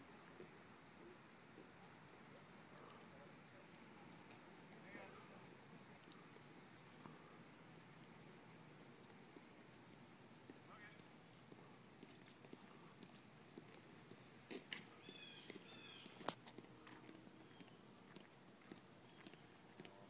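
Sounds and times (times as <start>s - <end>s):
insects chirring: 0.0s - 19.9s.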